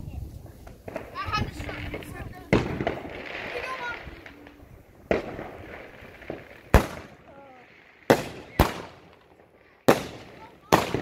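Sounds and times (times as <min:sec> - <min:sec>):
fireworks bangs: 0:00.2 - 0:11.0.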